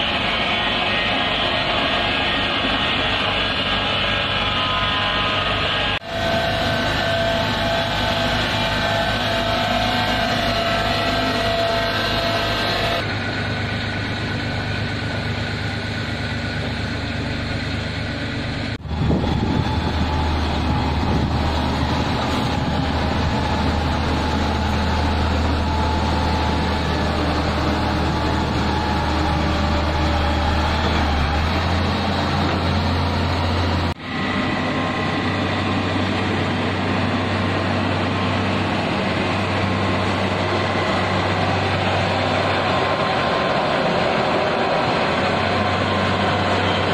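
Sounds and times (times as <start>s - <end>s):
heavy machinery engines humming: 0.0s - 46.9s.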